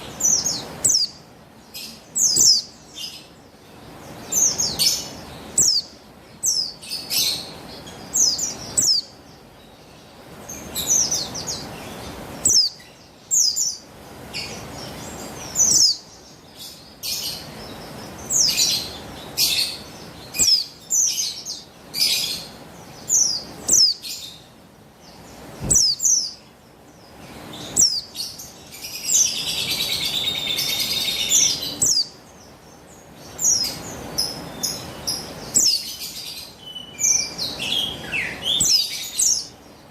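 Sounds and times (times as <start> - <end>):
bird twittering: 0.0 - 3.4, 4.2 - 9.2, 10.6 - 13.8, 14.4 - 24.4, 25.6 - 26.4, 27.6 - 32.2, 33.2 - 39.6.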